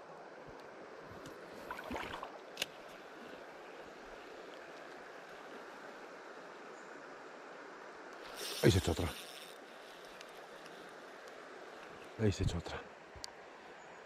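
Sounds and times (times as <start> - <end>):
river flowing: 0.0 - 14.0
rustle: 0.0 - 14.0.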